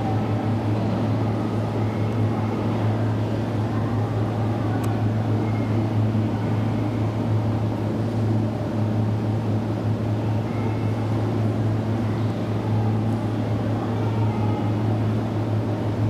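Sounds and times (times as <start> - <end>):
constant low hum: 0.0 - 16.0
subway train rumbling: 0.0 - 16.0.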